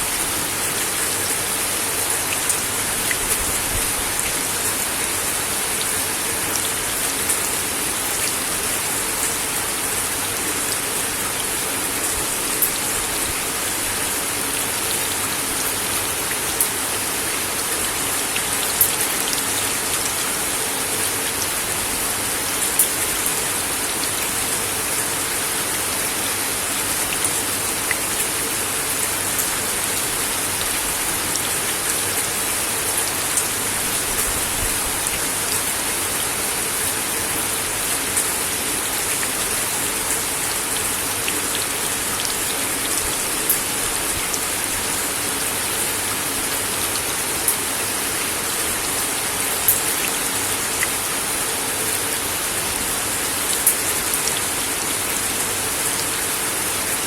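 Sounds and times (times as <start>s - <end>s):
rain on a wooden deck: 0.0s - 57.0s.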